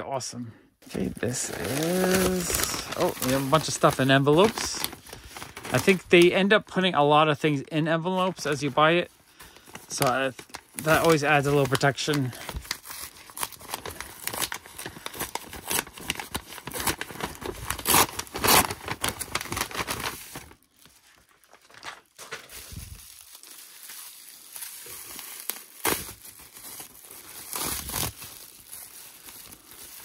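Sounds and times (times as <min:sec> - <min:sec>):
paper and bubble wrap crinkling: 0:00.8 - 0:30.0.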